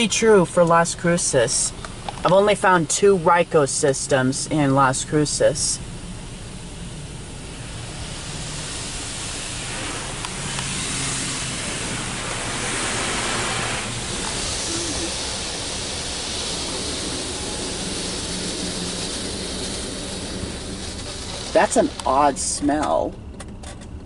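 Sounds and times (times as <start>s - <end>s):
water spray hitting a car: 0.0s - 23.1s.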